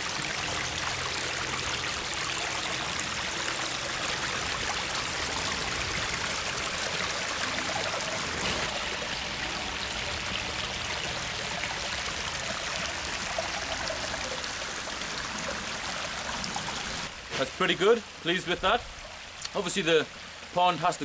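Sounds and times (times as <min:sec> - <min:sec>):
water trickling over rocks: 0:00.0 - 0:21.0.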